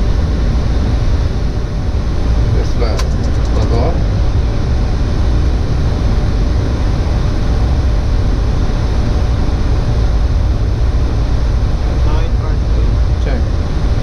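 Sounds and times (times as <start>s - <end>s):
cockpit engine and air rumble: 0.0s - 14.0s.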